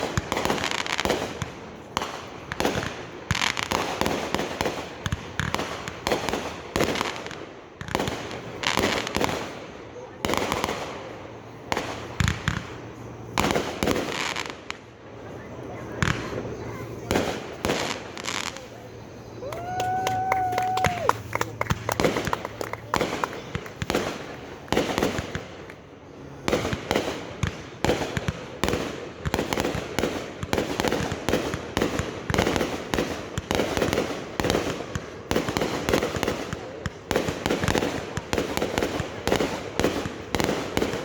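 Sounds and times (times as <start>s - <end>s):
fireworks popping and cracking: 0.0s - 41.0s.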